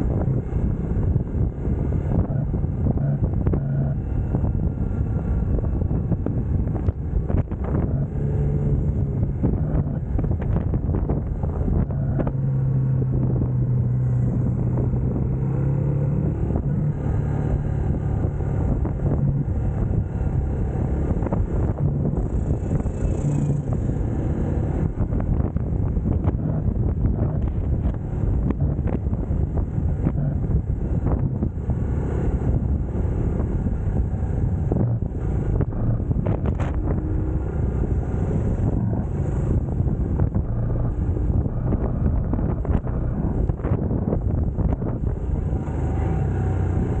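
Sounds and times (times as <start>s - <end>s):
motorcycle engine running: 0.0s - 47.0s
wind rush on microphone: 0.0s - 47.0s.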